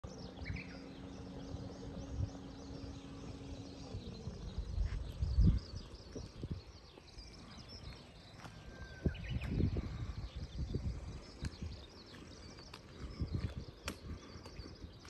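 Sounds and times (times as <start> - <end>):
low uneven rumble: 0.0 - 14.7
small birds chirping: 0.0 - 15.0
steady low hum: 0.0 - 15.0.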